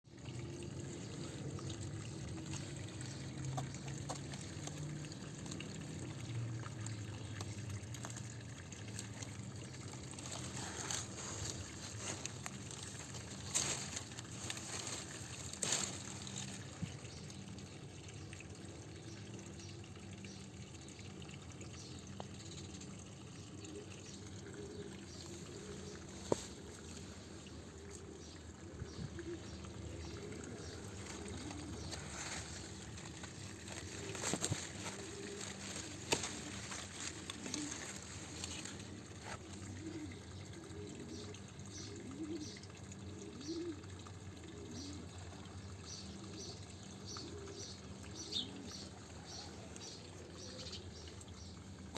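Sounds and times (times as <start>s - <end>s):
water pouring and trickling: 0.0s - 51.9s.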